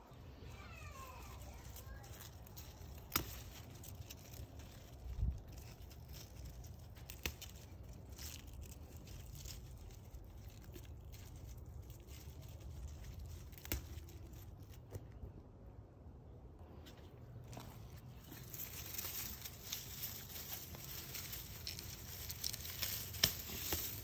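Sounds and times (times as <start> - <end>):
low steady rumble: 0.0 - 24.0
leaves rustling: 0.2 - 15.1, 16.6 - 24.0
stems snapping: 1.3 - 15.1, 17.5 - 24.0.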